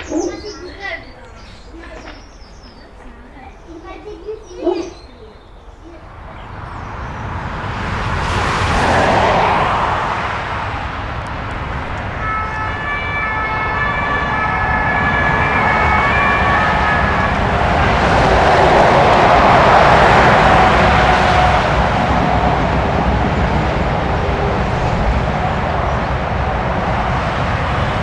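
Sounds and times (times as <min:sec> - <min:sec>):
steady traffic roar: 0:00.0 - 0:28.0
vehicle passing: 0:00.0 - 0:28.0.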